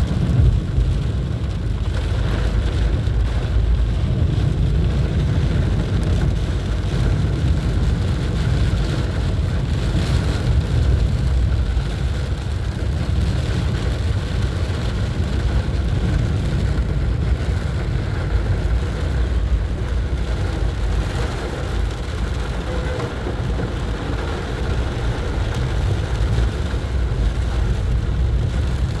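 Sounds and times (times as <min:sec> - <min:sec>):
car rumbling on wet road: 0:00.0 - 0:29.0
rain hissing: 0:00.0 - 0:29.0.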